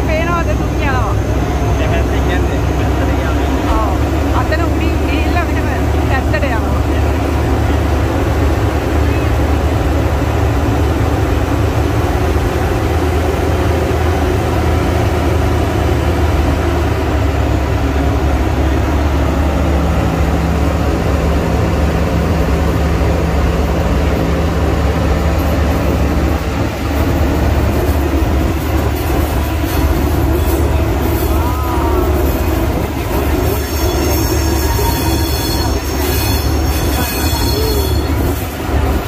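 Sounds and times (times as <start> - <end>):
steam train rumbling: 0.0 - 39.0.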